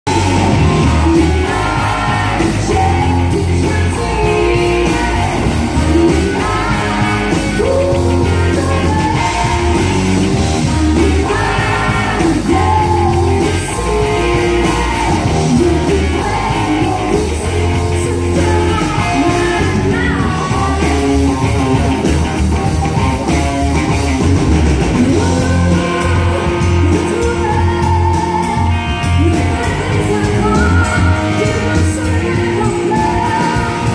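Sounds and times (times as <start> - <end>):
bass line pulsing: 0.0 - 33.9
drums: 0.0 - 33.9
electric guitars: 0.0 - 33.9
woman singing lead: 0.1 - 22.1, 24.9 - 33.9.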